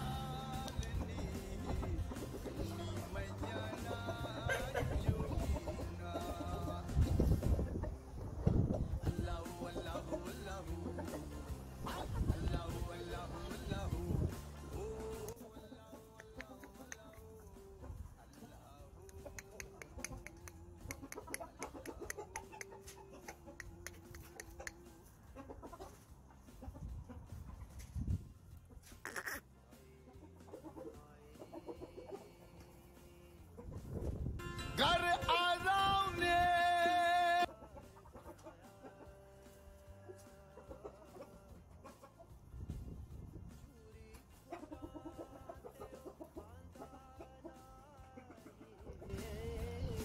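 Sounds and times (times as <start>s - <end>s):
song with singing: 0.0s - 26.8s, 29.1s - 50.0s
chickens clucking: 0.0s - 50.0s.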